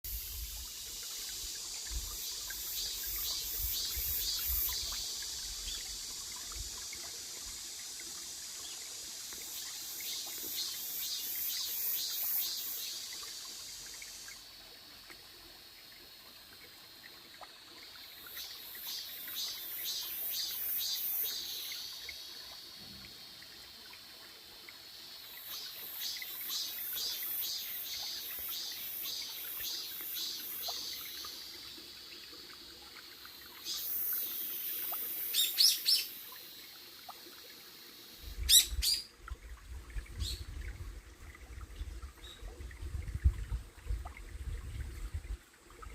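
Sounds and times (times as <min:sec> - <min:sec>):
cicadas pulsing buzz: 0:00.0 - 0:45.9.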